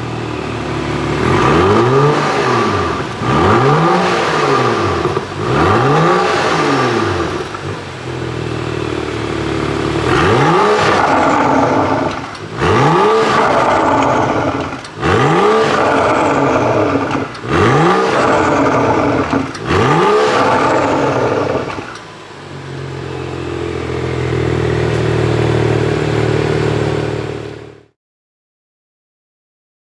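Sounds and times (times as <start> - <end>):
car engine idling: 0.0 - 27.9
car engine revving: 0.0 - 28.0.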